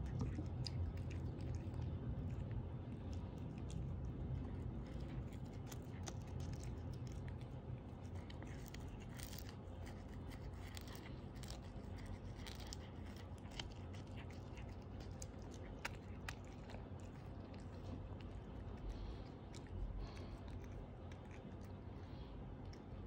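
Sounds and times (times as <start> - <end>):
cat chewing with crunching clicks: 0.0 - 23.0
faint low hum: 0.0 - 23.0.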